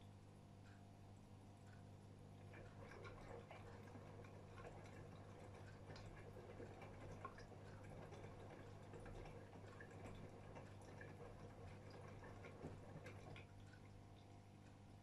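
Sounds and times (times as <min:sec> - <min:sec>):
washing machine hum: 0:00.0 - 0:15.0
water drips and ticks in drum: 0:00.6 - 0:15.0.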